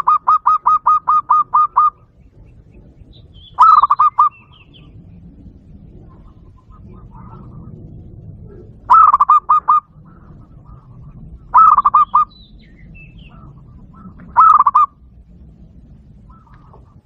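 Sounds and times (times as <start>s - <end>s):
dove cooing through speaker: 0.0s - 17.0s
faint bird chirps: 0.0s - 17.0s.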